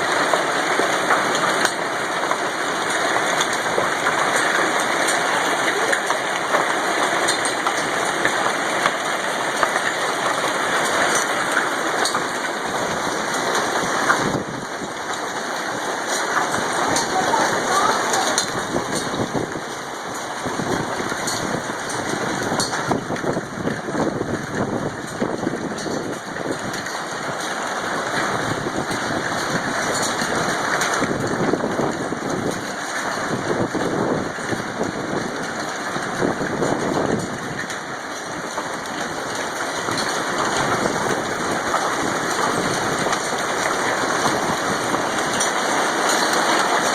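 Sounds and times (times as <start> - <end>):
hail and rain on hard surfaces: 0.0 - 46.9.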